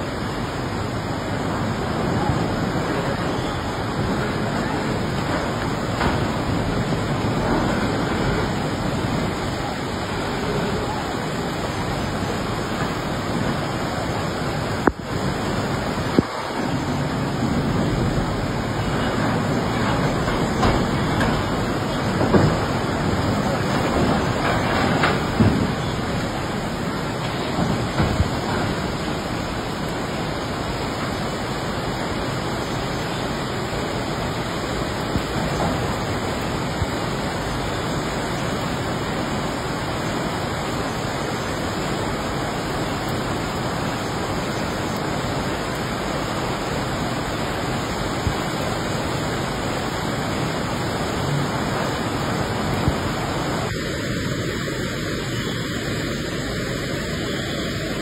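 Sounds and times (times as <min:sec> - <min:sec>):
river rushing in flood: 0:00.0 - 0:58.0.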